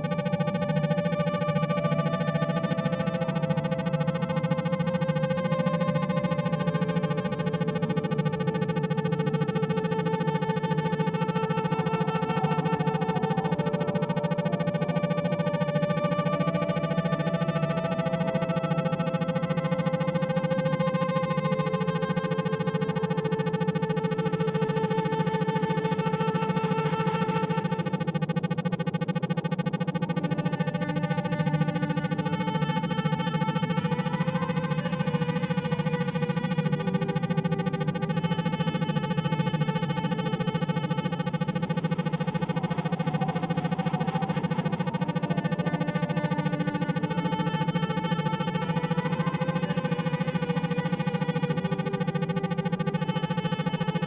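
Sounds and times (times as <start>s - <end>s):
pulsing low drone: 0.0s - 54.0s
sustained synthesizer tones: 0.0s - 54.0s.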